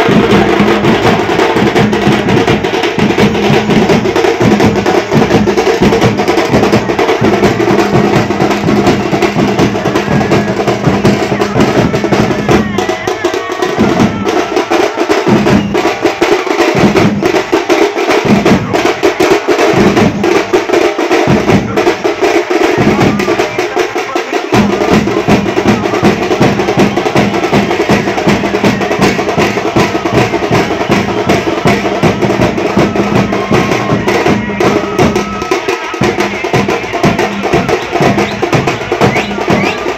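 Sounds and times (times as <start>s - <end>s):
deep low drum beats: 0.0s - 23.7s, 24.4s - 39.9s
large drums beaten with sticks: 0.0s - 39.9s.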